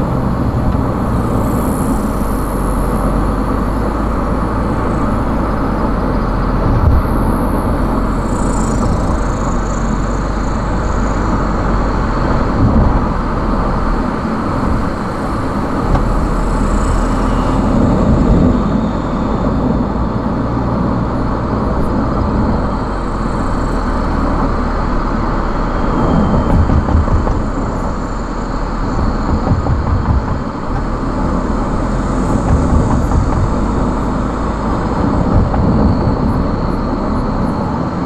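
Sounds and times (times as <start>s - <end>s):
car engine and tyre road noise: 0.0s - 38.0s.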